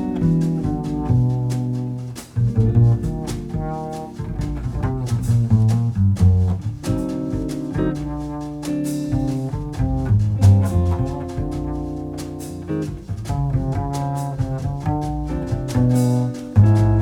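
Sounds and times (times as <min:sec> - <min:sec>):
instrumental music with bass and beat: 0:00.0 - 0:17.0.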